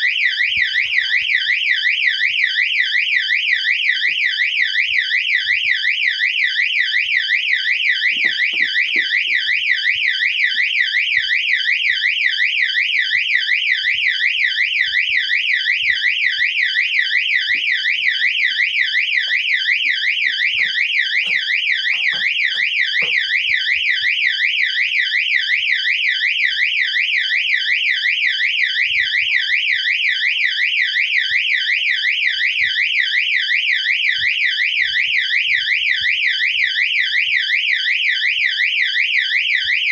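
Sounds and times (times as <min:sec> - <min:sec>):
fire alarm siren warbling: 0:00.0 - 0:39.9.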